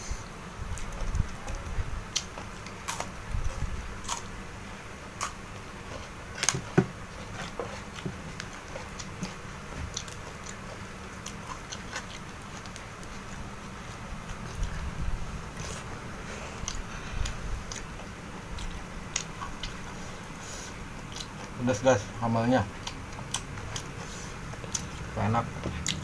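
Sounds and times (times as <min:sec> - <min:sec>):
biting and chewing: 0:00.7 - 0:04.4, 0:05.1 - 0:21.6, 0:22.7 - 0:26.0.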